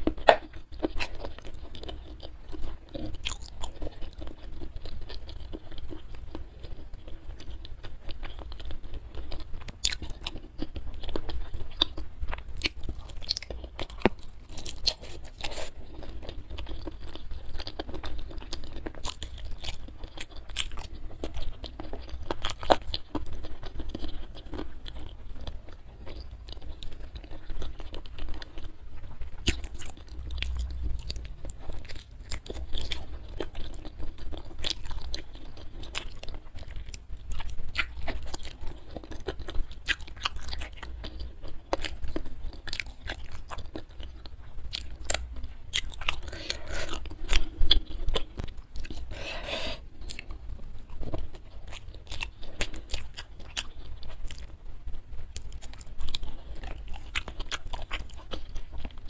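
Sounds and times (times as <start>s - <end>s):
wet crunching chewing: 0.0s - 54.6s, 55.4s - 59.0s.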